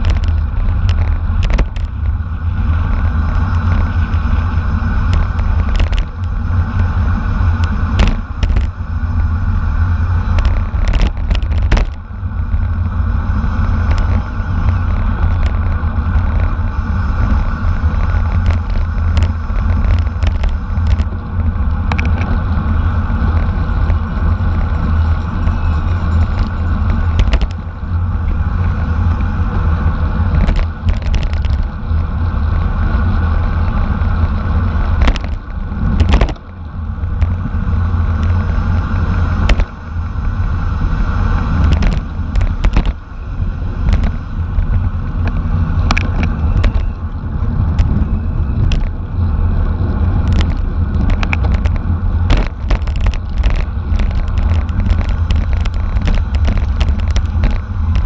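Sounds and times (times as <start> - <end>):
bike clicks and rattles: 0.0 - 58.0
wind buffeting microphone: 0.0 - 58.0.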